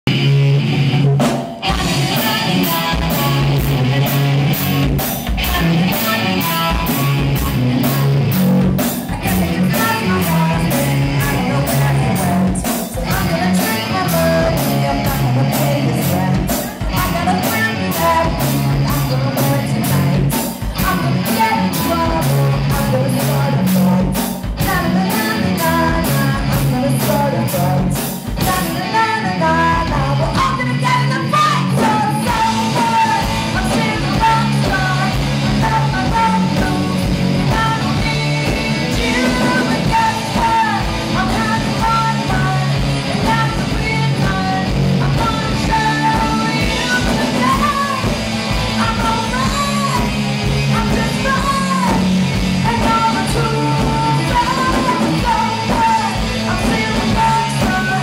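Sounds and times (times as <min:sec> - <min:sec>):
electric guitars: 0:00.0 - 0:58.0
drum kit steady beat: 0:00.1 - 0:29.0, 0:29.6 - 0:58.0
woman singing lead: 0:01.6 - 0:58.0.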